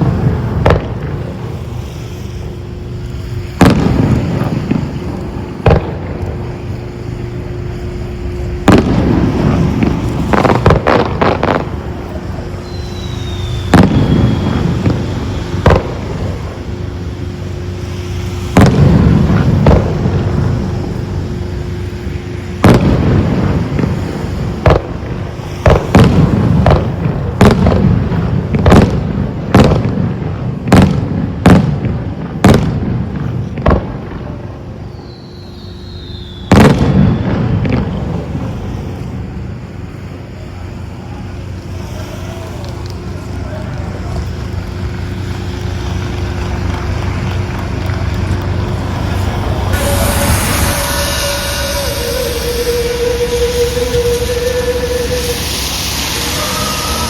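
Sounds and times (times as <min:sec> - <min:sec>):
low hum: 0:00.0 - 0:27.4, 0:34.0 - 0:57.0
fireworks shells booming: 0:00.0 - 0:39.7, 0:42.6 - 0:57.0
fireworks crackling: 0:00.0 - 0:57.0.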